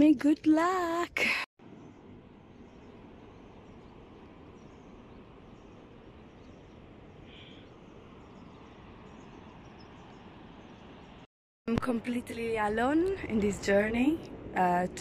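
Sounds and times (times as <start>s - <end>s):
faint outdoor background hiss: 0.0s - 15.0s.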